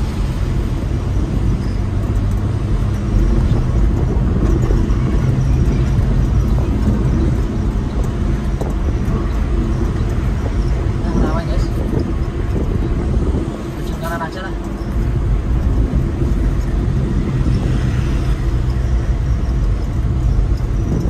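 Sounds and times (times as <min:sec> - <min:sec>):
pickup engine running: 0:00.0 - 0:21.0
road noise: 0:00.0 - 0:21.0.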